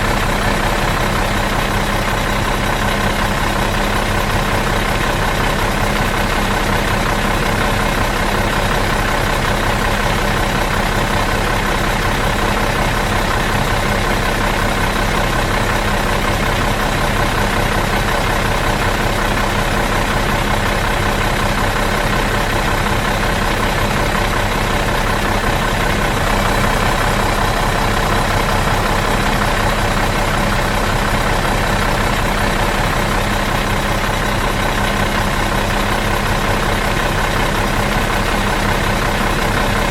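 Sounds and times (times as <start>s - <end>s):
bus engine idling: 0.0s - 39.9s.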